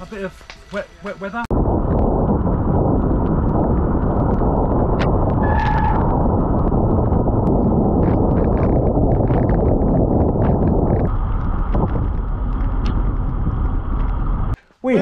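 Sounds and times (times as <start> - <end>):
wind buffeting microphone: 1.4 - 14.6.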